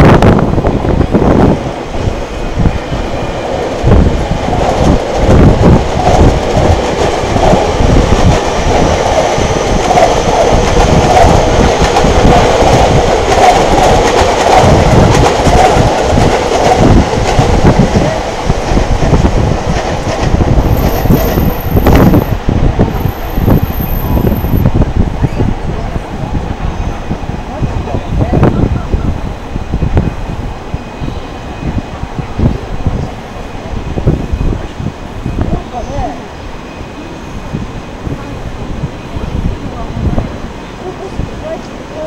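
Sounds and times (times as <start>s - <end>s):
electric train passing: 0.0s - 42.0s
wind rumbling on microphone: 0.0s - 42.0s.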